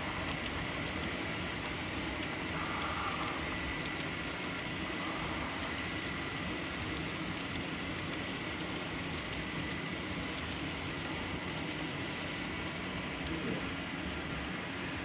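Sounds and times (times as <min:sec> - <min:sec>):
model train rolling with whine: 0:00.0 - 0:15.0.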